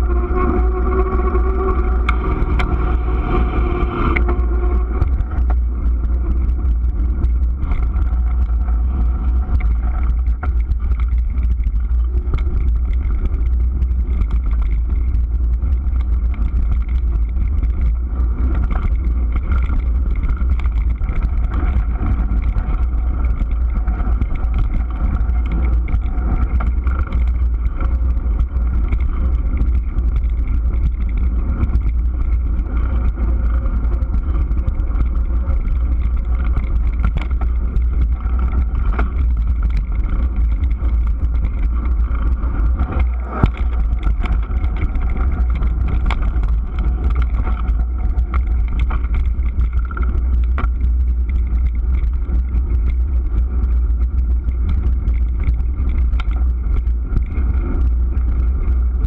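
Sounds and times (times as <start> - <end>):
bike clicks and rattles: 0.0 - 59.0
wind rumble on microphone: 0.0 - 59.0.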